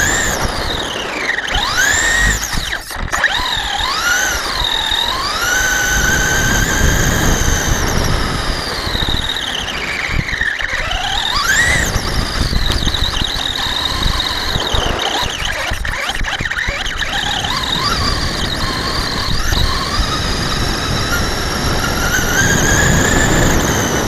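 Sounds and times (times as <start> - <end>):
electric toy truck motor whining: 0.0 - 24.0.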